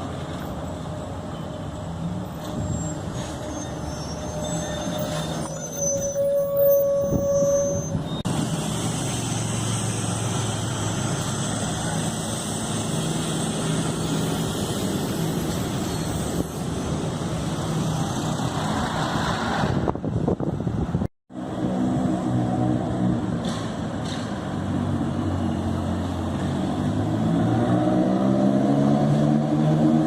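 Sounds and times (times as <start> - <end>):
bus passing on street: 0.0 - 30.0
street traffic noise: 0.0 - 30.0.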